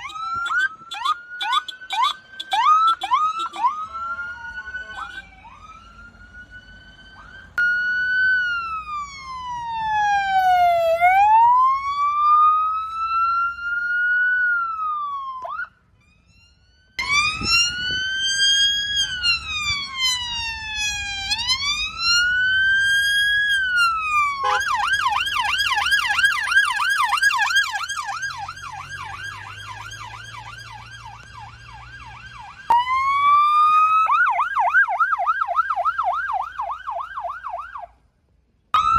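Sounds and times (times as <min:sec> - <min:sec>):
siren fast yelp: 0:00.0 - 0:37.9
emergency siren wailing: 0:00.0 - 0:38.0.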